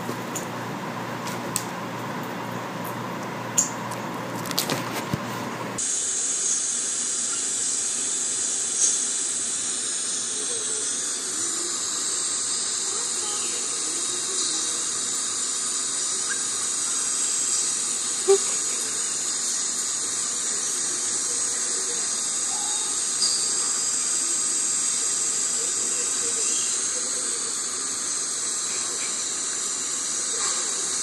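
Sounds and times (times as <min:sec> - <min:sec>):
steady high hiss: 0:05.6 - 0:31.0.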